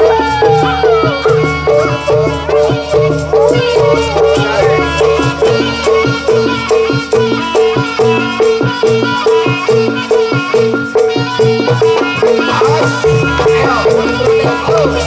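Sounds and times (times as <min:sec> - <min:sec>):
drum strokes: 0:00.0 - 0:15.0
tuned percussion pattern: 0:00.0 - 0:15.0.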